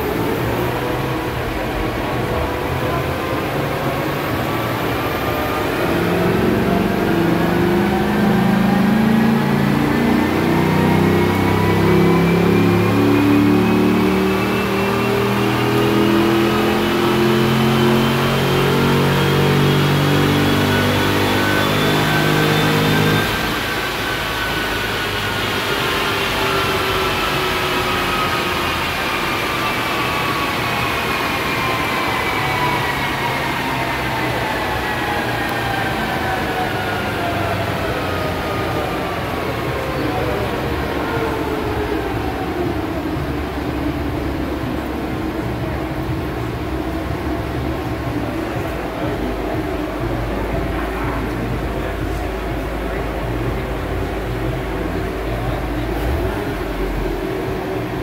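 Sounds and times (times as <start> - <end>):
car engine at full throttle: 0.0 - 58.0
drivetrain whine: 0.0 - 58.0.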